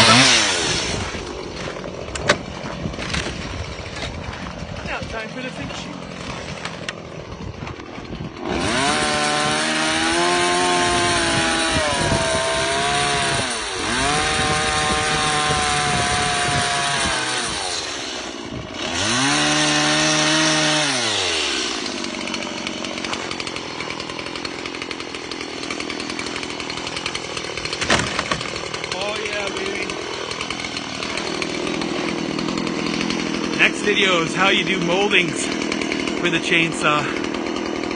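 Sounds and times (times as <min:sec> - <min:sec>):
chainsaw idling and revving: 0:00.0 - 0:37.9.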